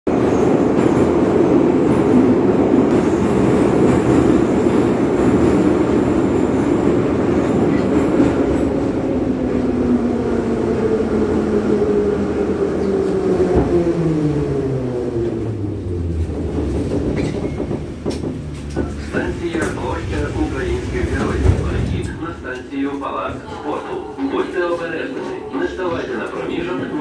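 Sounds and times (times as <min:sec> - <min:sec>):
metro train rumbling in tunnel: 0:00.1 - 0:27.0.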